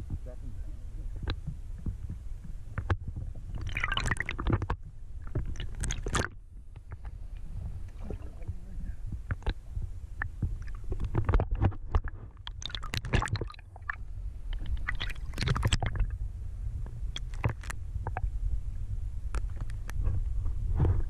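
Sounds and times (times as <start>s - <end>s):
underwater rumble of moving water: 0.0s - 21.0s.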